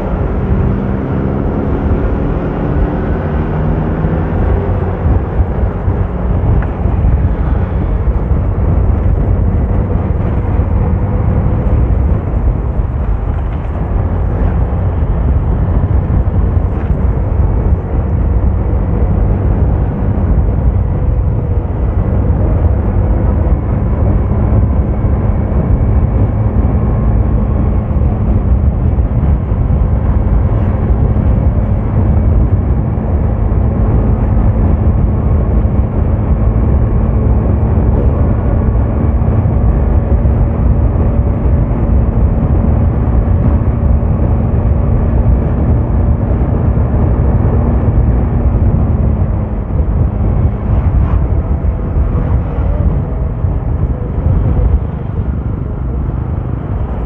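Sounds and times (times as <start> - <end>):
vehicle engine drone: 0.0 - 57.0
wind and road noise: 0.0 - 57.0.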